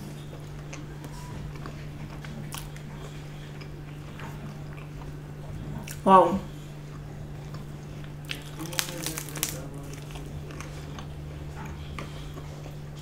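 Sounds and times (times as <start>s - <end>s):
close-up chewing: 0.0s - 13.0s.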